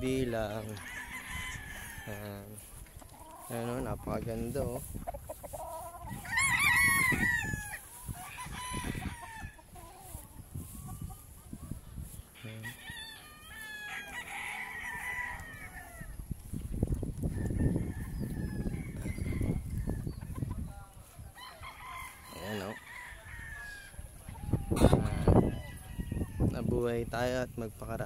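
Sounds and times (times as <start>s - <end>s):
roosters crowing: 0.0s - 26.9s.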